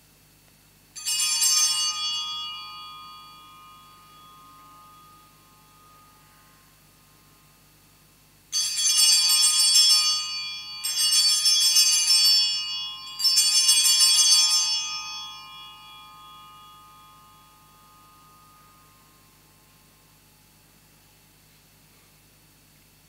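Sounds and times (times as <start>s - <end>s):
small altar bells ringing: 0.9s - 22.7s.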